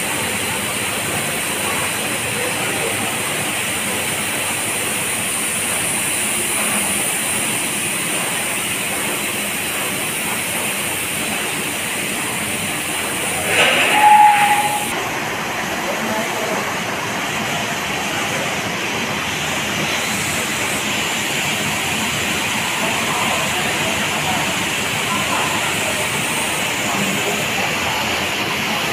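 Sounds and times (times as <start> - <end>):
production line hissing hum: 0.0 - 28.9.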